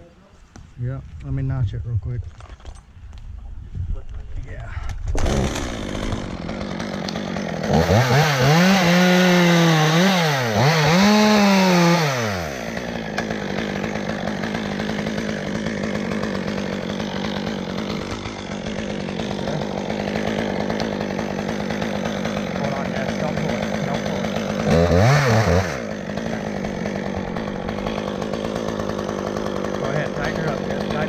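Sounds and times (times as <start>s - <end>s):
chainsaw revving and idling: 5.2s - 31.0s.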